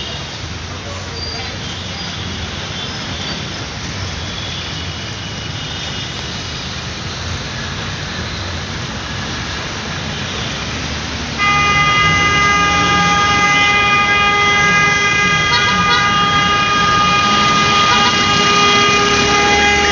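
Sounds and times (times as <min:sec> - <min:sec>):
road hiss: 0:00.0 - 0:19.9
vehicle engine rumble: 0:00.0 - 0:19.9.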